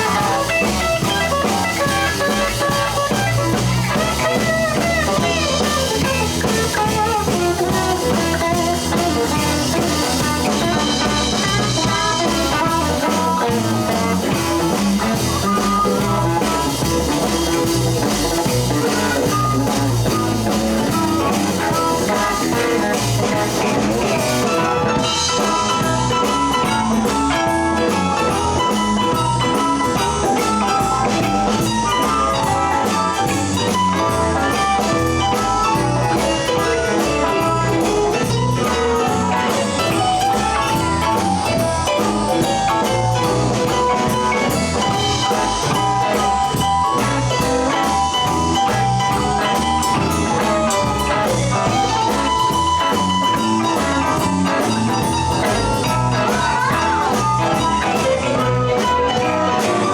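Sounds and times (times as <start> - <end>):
bass: 0.0 - 59.9
drums: 0.0 - 59.9
guitar: 0.0 - 59.9.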